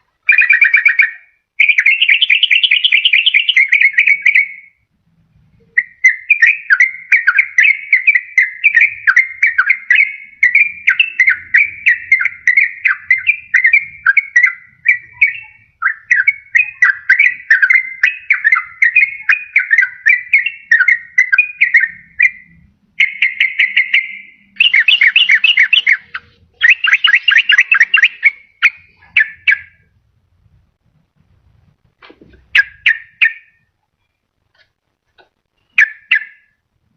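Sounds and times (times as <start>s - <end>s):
bird singing chattering song: 0.2s - 4.8s, 5.4s - 30.0s, 32.4s - 34.2s, 35.4s - 36.6s.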